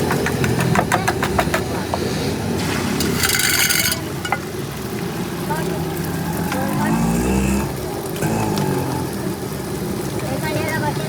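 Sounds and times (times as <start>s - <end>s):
traffic engine rumble: 0.0s - 11.0s.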